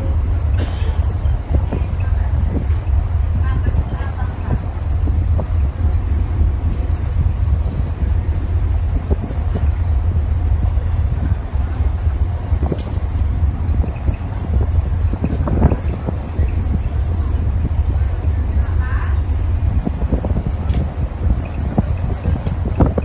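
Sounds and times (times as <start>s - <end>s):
ship engine running: 0.0s - 23.0s
wind buffeting microphone: 0.0s - 23.0s.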